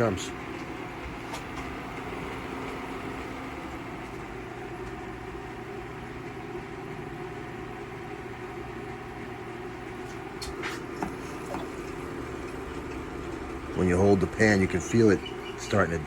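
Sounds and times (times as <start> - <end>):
cooling fans humming: 0.0 - 16.0
kettle water boiling: 0.0 - 16.0.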